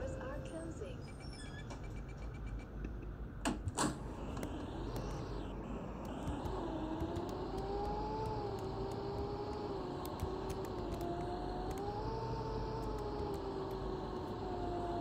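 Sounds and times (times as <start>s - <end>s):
whine rising and falling: 1.4s - 15.0s.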